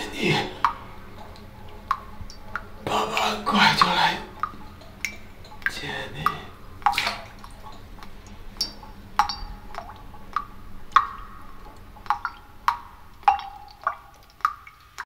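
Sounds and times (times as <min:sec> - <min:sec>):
water drops clinking: 0:00.0 - 0:15.0.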